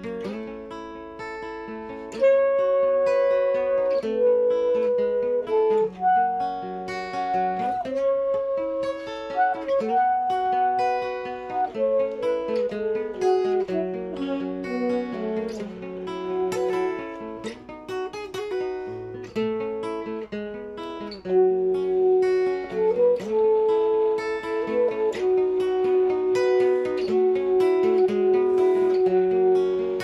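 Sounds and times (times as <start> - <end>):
saxophone slow melody: 0.0 - 17.8, 20.9 - 30.0
strummed guitar chords: 0.0 - 30.0.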